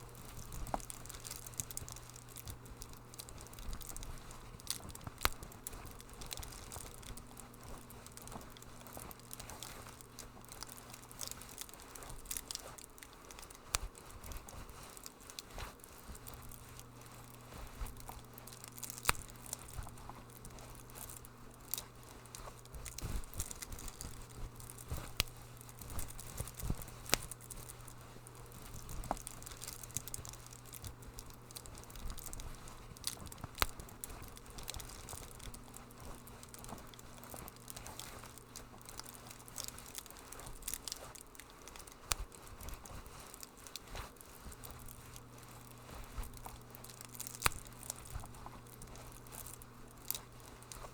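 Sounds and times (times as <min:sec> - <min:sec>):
low steady hum: 0:00.0 - 0:50.9
wood fire crackling: 0:00.0 - 0:50.9.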